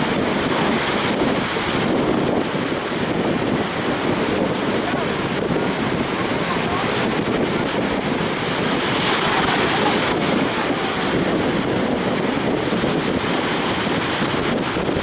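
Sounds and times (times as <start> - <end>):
sea surf breaking: 0.0 - 15.0
wind buffeting microphone: 0.0 - 15.0.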